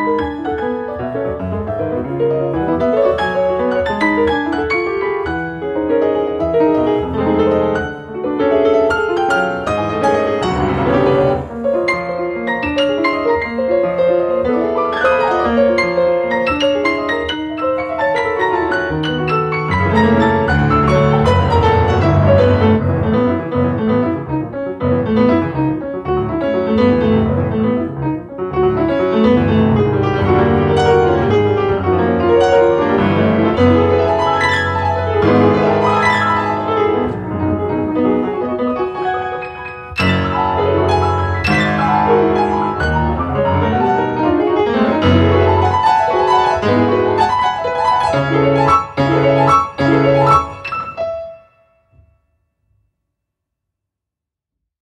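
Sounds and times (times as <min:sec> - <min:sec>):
grand piano playing: 0:00.0 - 0:52.1.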